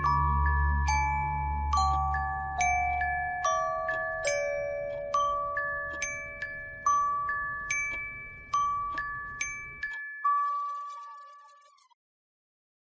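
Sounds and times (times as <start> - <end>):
slow bell-like mallet melody: 0.0 - 11.4.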